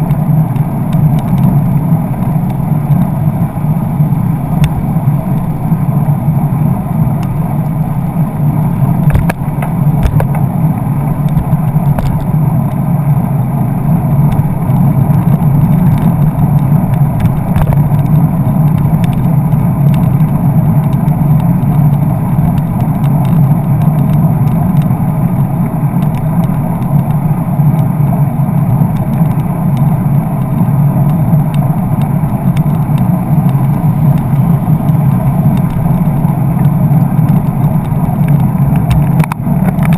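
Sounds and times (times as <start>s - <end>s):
rushing wind and road noise: 0.0s - 39.9s.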